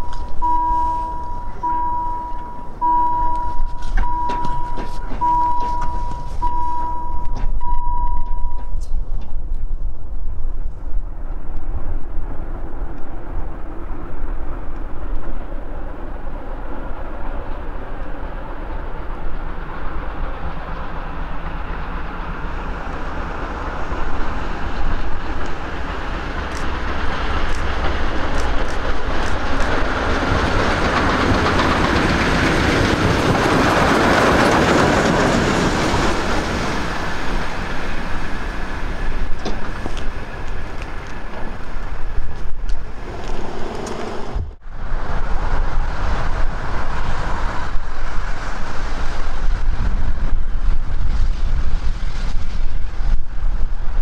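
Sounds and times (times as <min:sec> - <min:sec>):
steam locomotive running: 0:00.0 - 0:09.3, 0:10.5 - 0:54.0
steady low rumble: 0:00.0 - 0:54.0.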